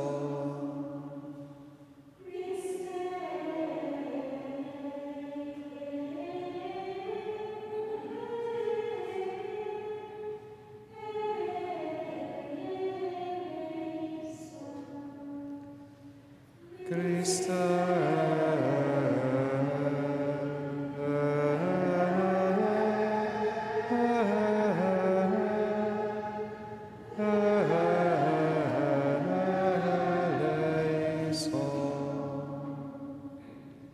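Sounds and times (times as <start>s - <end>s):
choir of nuns chanting: 0.0s - 15.8s, 16.6s - 33.6s.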